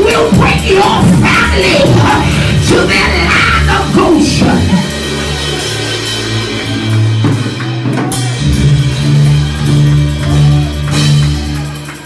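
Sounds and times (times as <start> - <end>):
upbeat praise music: 0.0 - 12.0.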